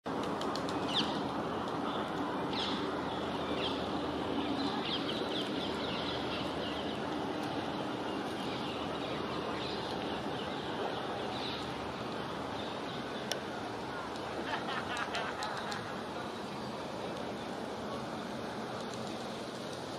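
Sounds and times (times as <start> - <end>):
distant city traffic hum: 0.0 - 19.9
small birds chirping: 0.2 - 17.6.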